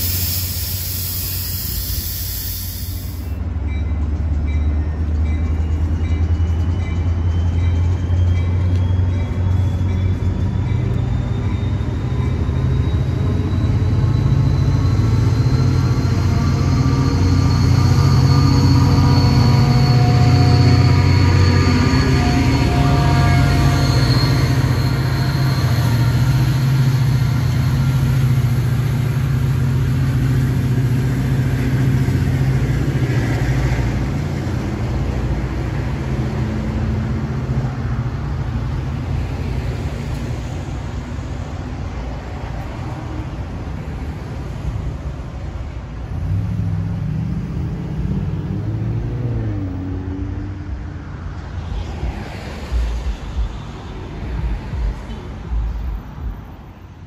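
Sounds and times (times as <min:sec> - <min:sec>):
diesel train engine rumble: 0:00.0 - 0:57.0.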